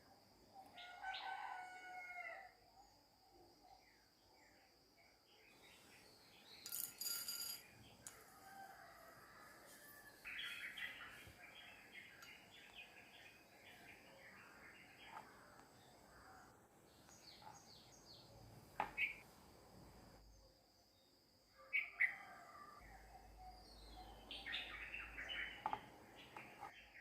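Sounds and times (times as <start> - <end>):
faint birds chirping: 0.2 - 19.3, 19.9 - 27.0.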